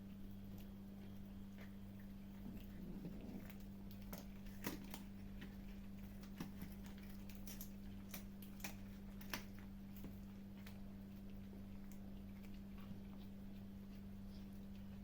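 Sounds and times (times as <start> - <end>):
kittens crunching food: 0.0 - 15.0
steady low hum: 0.0 - 15.0.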